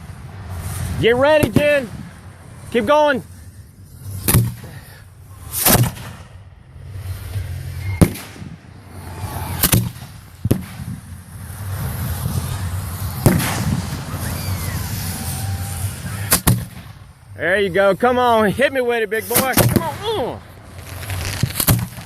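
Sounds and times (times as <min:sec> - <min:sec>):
firework shells bursting: 0:00.0 - 0:06.4, 0:07.0 - 0:17.4, 0:19.2 - 0:22.0
firework crackling: 0:00.0 - 0:22.0.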